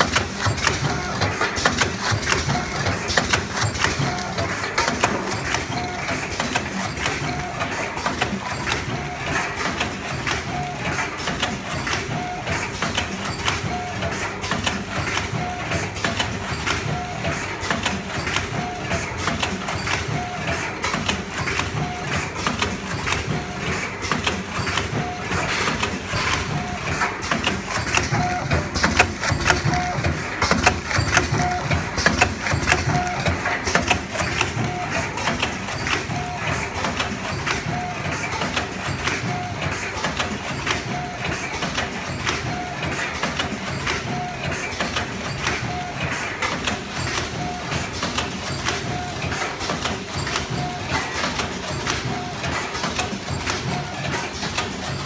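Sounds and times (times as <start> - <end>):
packing machine clattering: 0.0 - 55.0.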